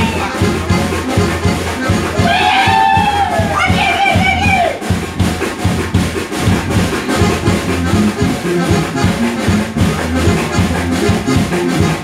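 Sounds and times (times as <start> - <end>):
accordion: 0.0 - 12.0
live band playing upbeat music: 0.0 - 12.0.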